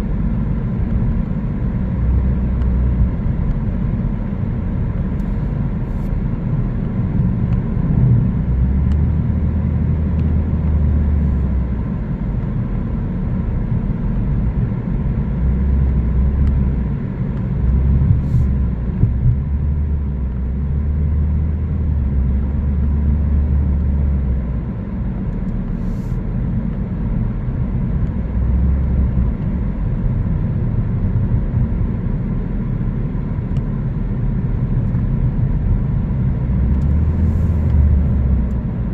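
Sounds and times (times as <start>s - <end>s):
deep hum: 0.0s - 32.8s
car engine and tyres rumbling: 0.0s - 38.9s.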